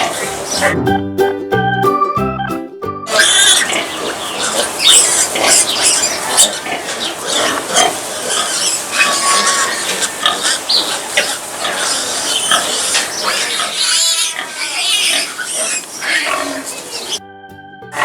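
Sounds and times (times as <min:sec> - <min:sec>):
piglets squealing and grunting: 0:00.0 - 0:00.8, 0:03.1 - 0:17.2.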